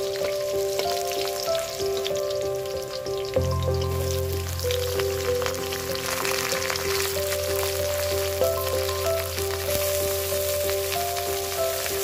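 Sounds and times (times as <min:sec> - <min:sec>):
background music in held notes: 0:00.0 - 0:12.0
vegetables sizzling in hot oil: 0:00.0 - 0:12.0.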